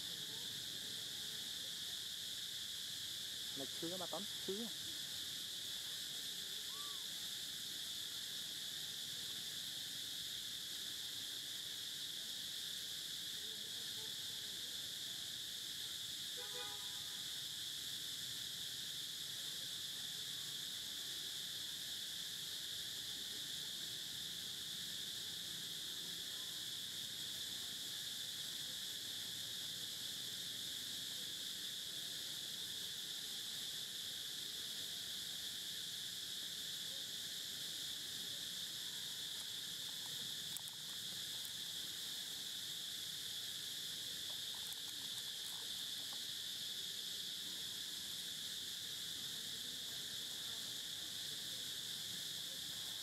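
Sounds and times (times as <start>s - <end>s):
insect chorus drone: 0.0s - 53.0s.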